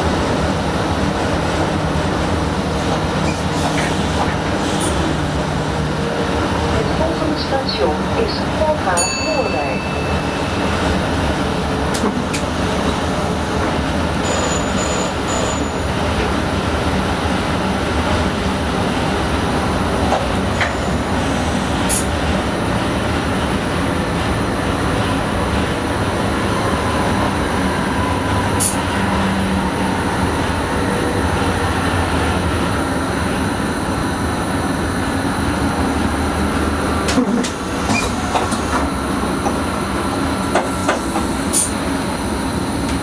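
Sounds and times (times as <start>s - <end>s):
train running noise: 0.0s - 43.0s.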